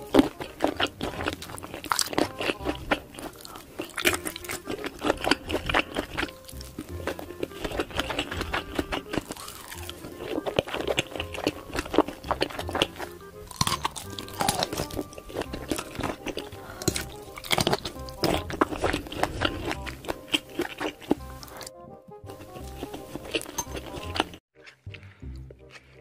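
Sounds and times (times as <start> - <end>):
background music with low pulse: 0.0 - 26.0
biting and chewing sausages: 0.0 - 26.0.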